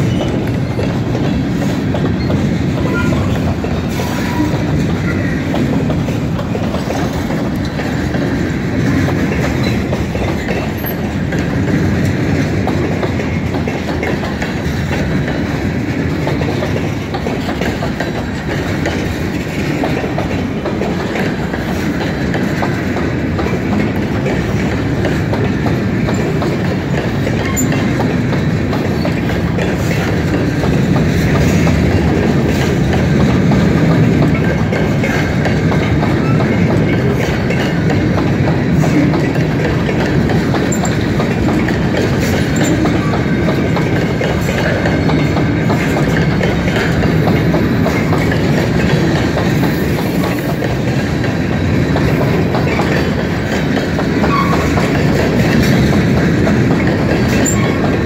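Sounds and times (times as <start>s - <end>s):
steel train wheels on rails: 0.0s - 58.0s.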